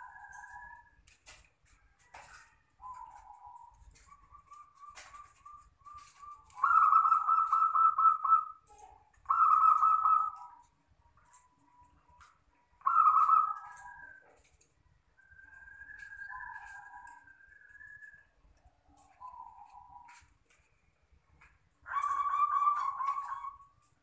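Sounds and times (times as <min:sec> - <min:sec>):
dove cooing: 0:00.0 - 0:01.4, 0:02.0 - 0:14.6, 0:15.2 - 0:20.4, 0:21.8 - 0:24.0.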